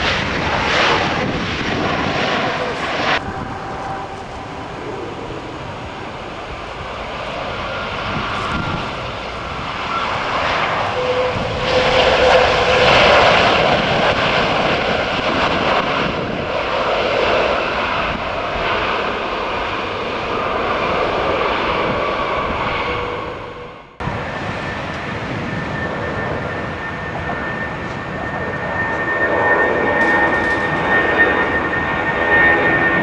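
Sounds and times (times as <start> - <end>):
jet engines running: 0.0 - 33.0.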